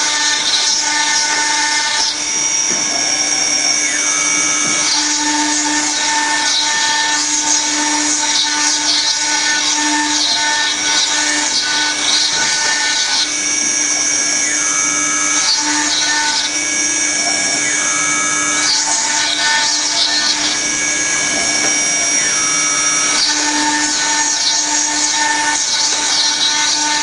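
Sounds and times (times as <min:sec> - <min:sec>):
bit grinding stone: 0:00.0 - 0:27.0
machine spindle whine: 0:00.0 - 0:27.0.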